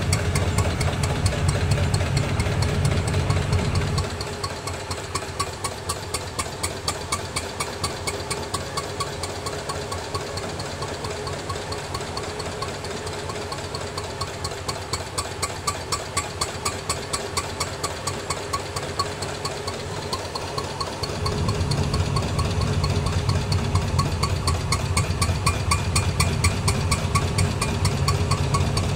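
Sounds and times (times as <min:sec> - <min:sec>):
single-cylinder engine slow beat: 0:00.0 - 0:28.9.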